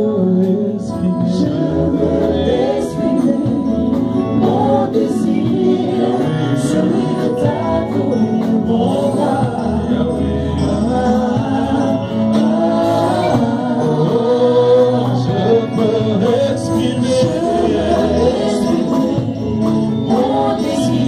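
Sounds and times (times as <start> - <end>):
keyboard accompaniment: 0.0 - 21.0
people singing gospel: 0.0 - 21.0.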